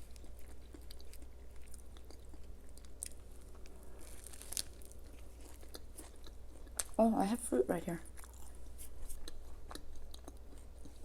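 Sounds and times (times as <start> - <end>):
person chewing crunchy food: 0.0 - 7.0, 8.0 - 11.0.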